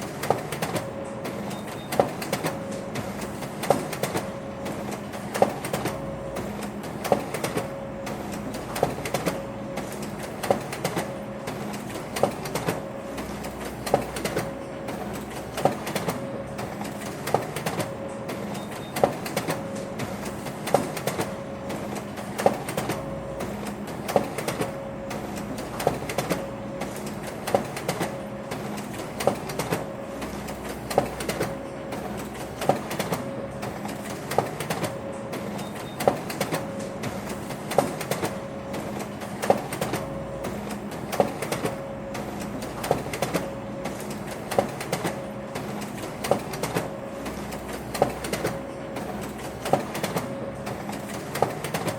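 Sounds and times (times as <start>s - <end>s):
printer mechanical clack: 0.0s - 51.9s
printer motor hum: 0.0s - 51.9s.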